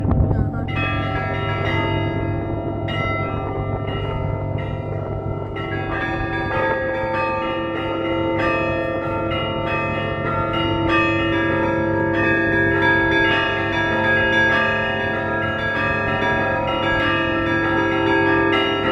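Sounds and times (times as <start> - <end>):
large bell hum: 0.0 - 18.9
church bells ringing: 0.6 - 18.9.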